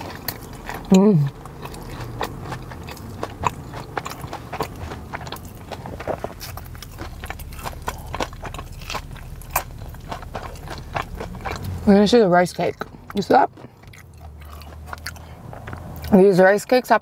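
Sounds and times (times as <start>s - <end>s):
crunchy chewing: 0.0s - 16.2s.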